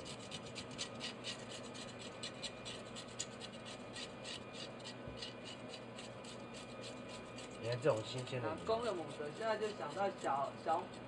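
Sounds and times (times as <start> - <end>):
scaler scraping fish scales: 0.0 - 11.0.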